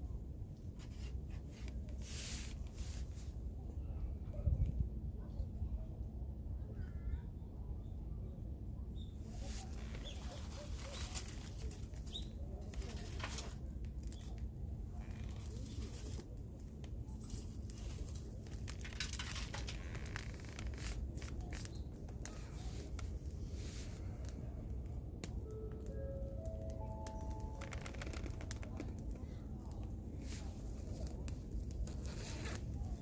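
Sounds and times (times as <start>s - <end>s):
crackling and rustling: 0.0s - 3.8s, 9.2s - 33.0s.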